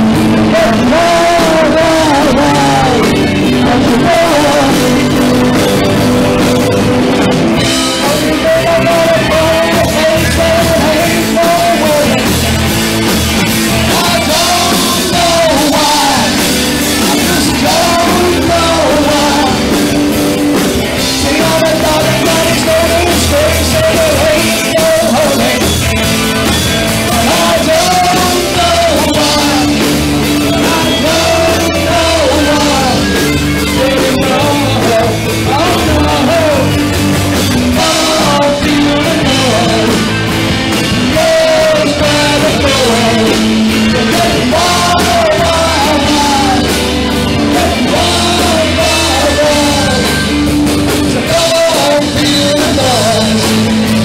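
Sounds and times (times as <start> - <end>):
drums: 0.0 - 54.0
electric guitar: 0.0 - 54.0
person singing: 0.0 - 54.0.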